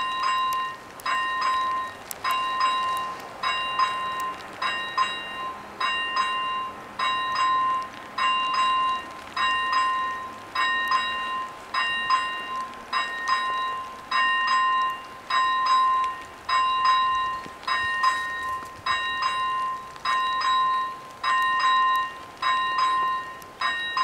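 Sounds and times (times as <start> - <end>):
level crossing bells ringing: 0.0 - 24.0.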